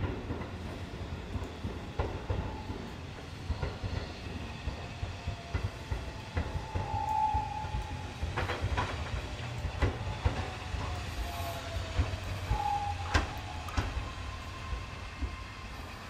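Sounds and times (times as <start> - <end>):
wheels clacking over rail joints: 0.0 - 15.4
train wheels rumbling: 0.0 - 16.0.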